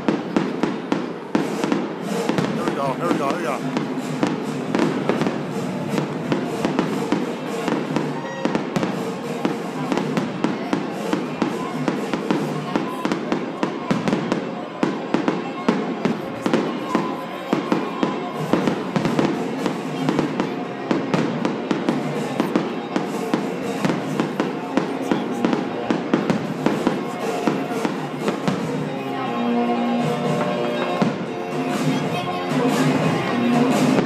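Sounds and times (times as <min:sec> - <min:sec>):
fireworks bangs and crackles: 0:00.0 - 0:34.0
music playing: 0:00.0 - 0:34.0.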